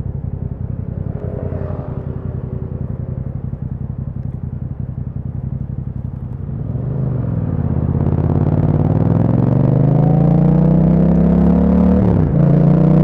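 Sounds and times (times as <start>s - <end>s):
motorcycle engine idling and accelerating: 0.0s - 13.0s.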